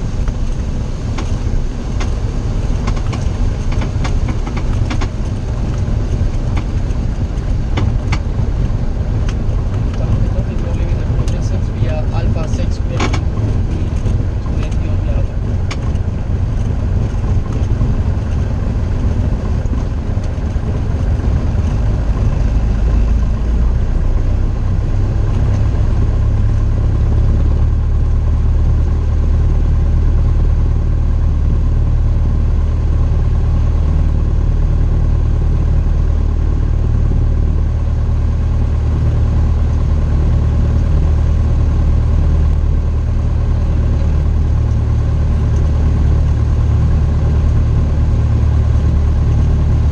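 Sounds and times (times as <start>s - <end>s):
light aircraft engine droning: 0.0s - 49.9s.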